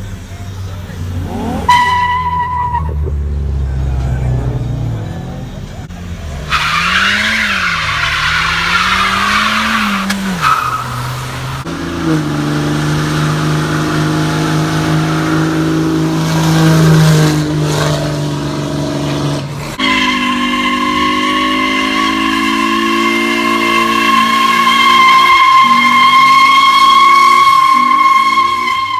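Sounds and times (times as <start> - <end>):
car engine revving: 0.0 - 28.9
tire squeal: 0.0 - 28.9.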